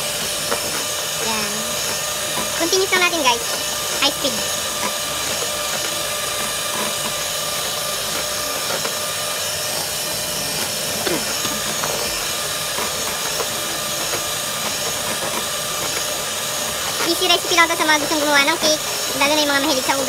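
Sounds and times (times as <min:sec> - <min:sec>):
electric mixer whipping: 0:00.0 - 0:20.0.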